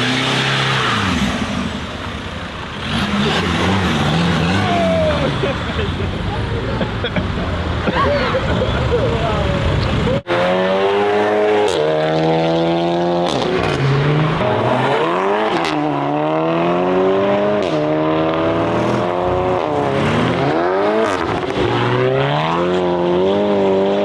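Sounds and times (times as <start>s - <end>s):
car engine revving hard: 0.0s - 2.1s, 2.7s - 5.8s, 9.5s - 24.0s.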